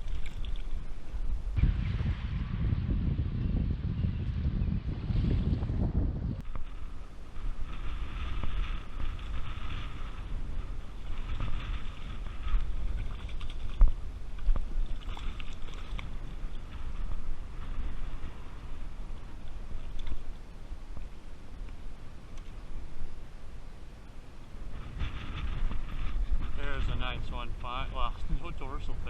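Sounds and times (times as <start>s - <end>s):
wind buffeting microphone: 0.0s - 23.4s, 24.4s - 29.0s.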